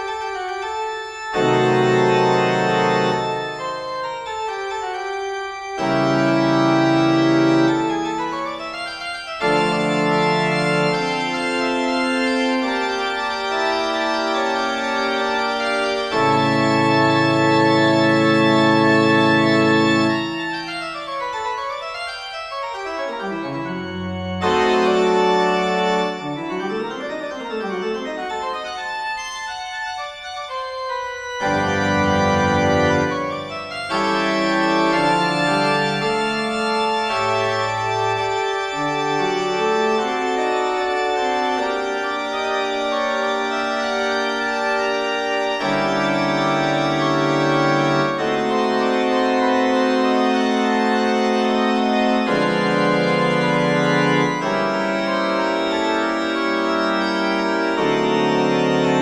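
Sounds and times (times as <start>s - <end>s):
organ music: 0.0s - 59.0s.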